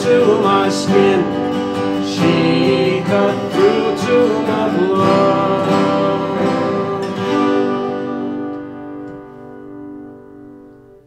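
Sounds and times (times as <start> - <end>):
acoustic guitar chord ringing: 0.0 - 11.0.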